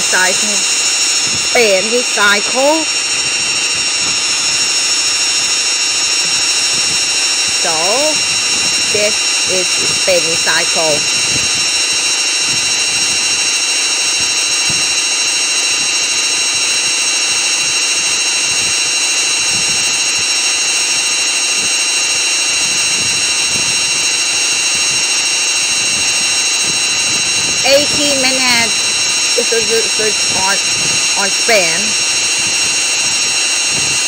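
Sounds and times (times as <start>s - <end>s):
spinning drum rushing: 0.0s - 34.0s
washing machine motor whine: 0.0s - 34.0s.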